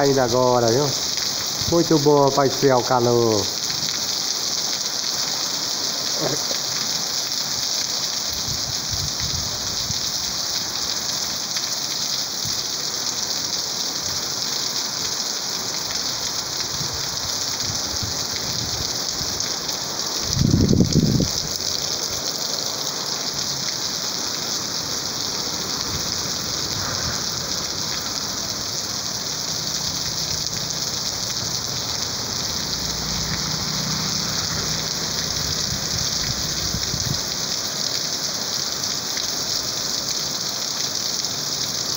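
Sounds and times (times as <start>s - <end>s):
car passing on wet road: 0.0s - 41.9s
rain on pavement: 0.0s - 41.9s.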